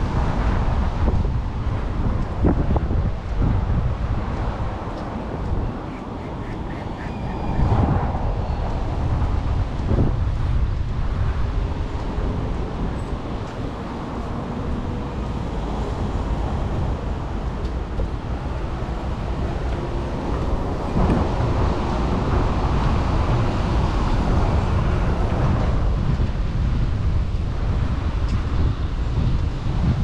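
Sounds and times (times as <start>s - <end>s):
passing road traffic: 0.0s - 30.0s
wind on microphone: 0.0s - 30.0s.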